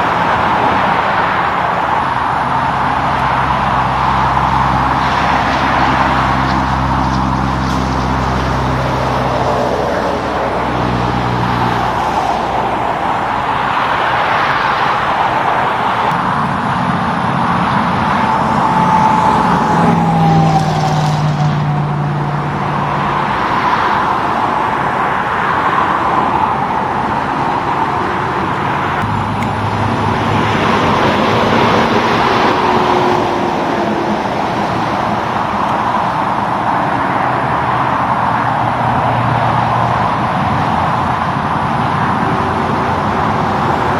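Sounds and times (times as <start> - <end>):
cars and trucks passing: 0.0 - 43.9
truck engines humming: 0.0 - 43.9.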